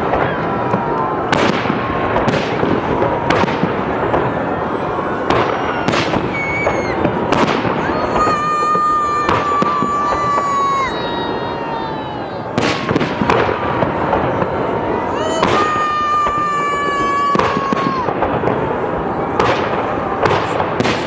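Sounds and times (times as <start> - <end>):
fireworks crackling: 0.0 - 21.0
rising firework whistles: 0.0 - 21.0.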